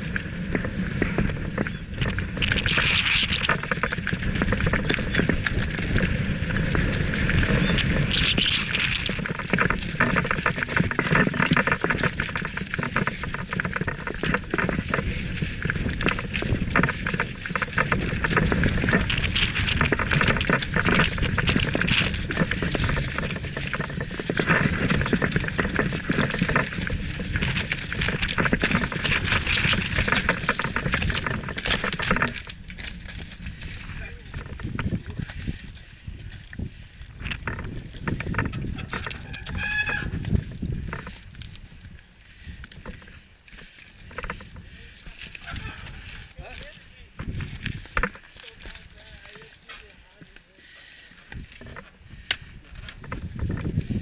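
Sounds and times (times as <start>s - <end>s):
bike rattling: 0.0s - 54.0s
tyres crunching over stones: 0.0s - 54.0s.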